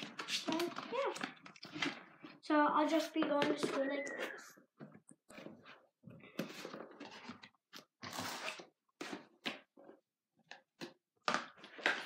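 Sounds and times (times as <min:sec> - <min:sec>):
papers and plastic folders rustling: 0:00.0 - 0:12.0.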